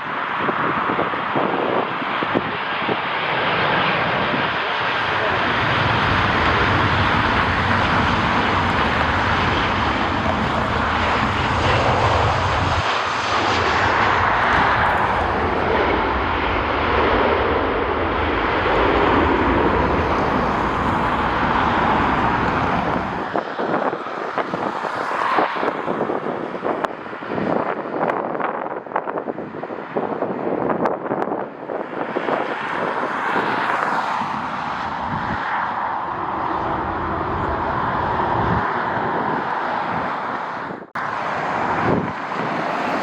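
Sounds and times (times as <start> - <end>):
jet engines rushing: 0.0 - 43.0
wind buffeting microphone: 0.0 - 43.0.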